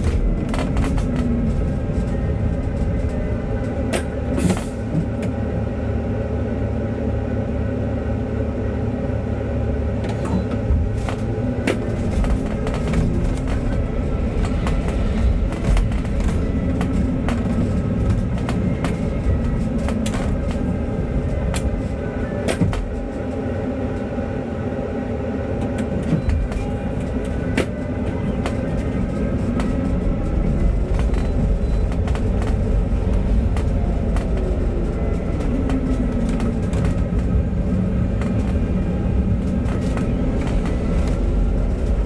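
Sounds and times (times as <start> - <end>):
bus engine hum: 0.0 - 42.0
road noise: 0.0 - 42.0.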